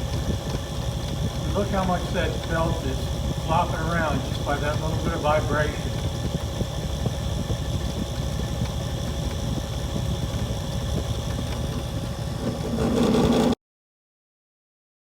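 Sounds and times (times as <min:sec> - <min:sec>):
loud hum: 0:00.0 - 0:13.6
rotating speaker rumble: 0:00.0 - 0:13.6.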